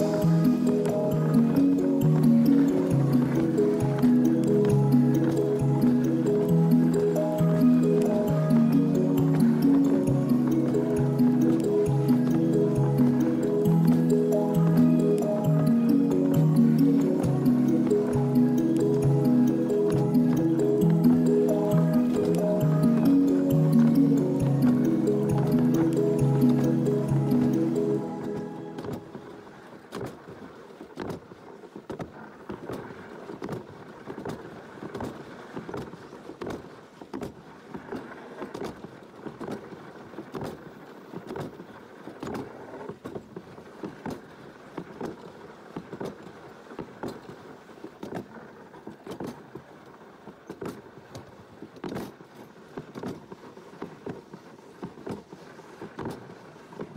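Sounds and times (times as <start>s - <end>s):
sled knocks and rattles: 0.0s - 56.9s
sled rolling rumble: 0.0s - 56.9s.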